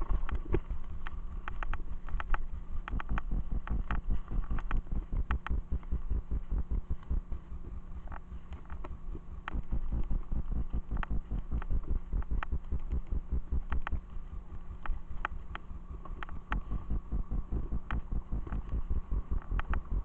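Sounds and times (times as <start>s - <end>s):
sharp clicks: 0.2s - 7.2s, 8.1s - 14.0s, 14.8s - 20.0s.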